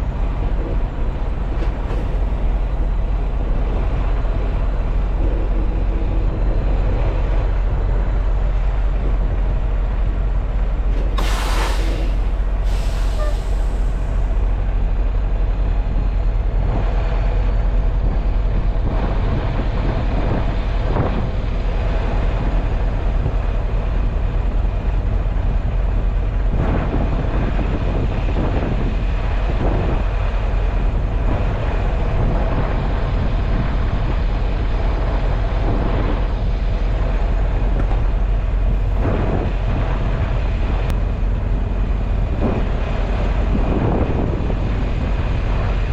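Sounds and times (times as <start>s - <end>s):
road noise: 0.0s - 45.9s
truck engine drone: 0.0s - 45.9s.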